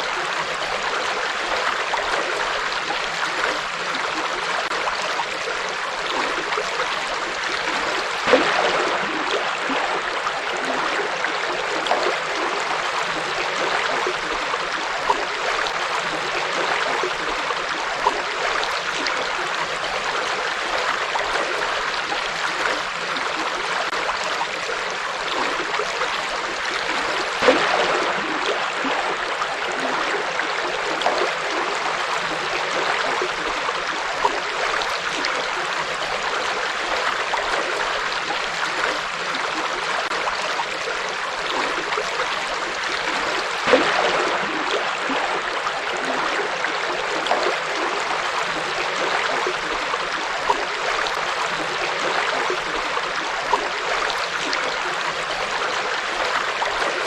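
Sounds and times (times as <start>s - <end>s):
water splashes: 0.0s - 57.0s.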